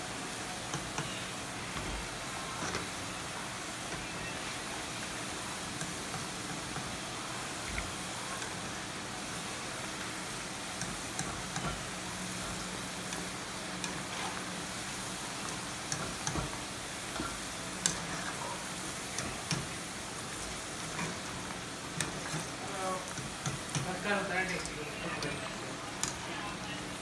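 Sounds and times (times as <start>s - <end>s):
fries sizzling in hot oil: 0.0s - 27.0s.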